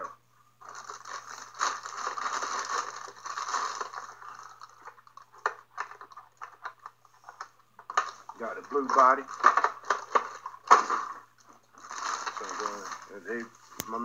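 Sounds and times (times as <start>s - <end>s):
plastic bag crinkling: 0.6s - 14.0s.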